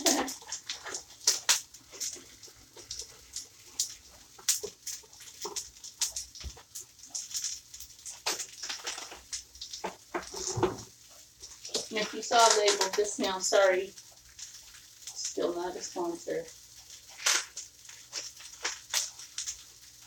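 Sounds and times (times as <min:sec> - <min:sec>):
cling wrap crinkling: 0:00.0 - 0:20.0.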